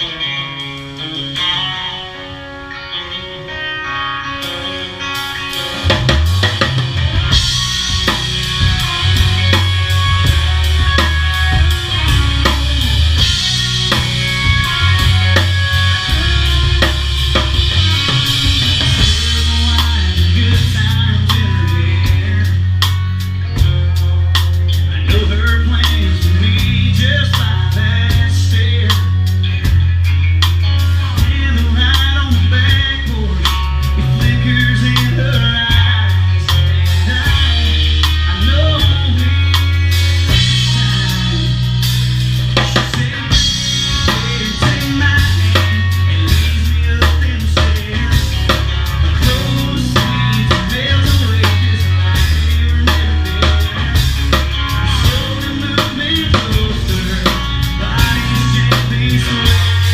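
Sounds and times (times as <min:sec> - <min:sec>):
rock band playing instrumental: 0:00.0 - 0:59.9
drum kit beat: 0:04.4 - 0:59.9.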